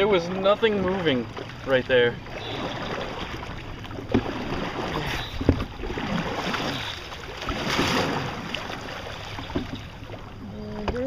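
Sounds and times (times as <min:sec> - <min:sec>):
paddles in water: 0:00.0 - 0:11.0
water splashing against hull: 0:00.0 - 0:11.0.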